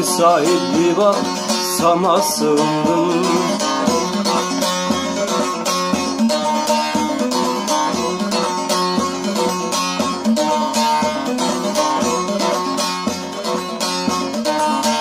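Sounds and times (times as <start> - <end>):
long-necked lute played with plectrum: 0.0 - 15.0.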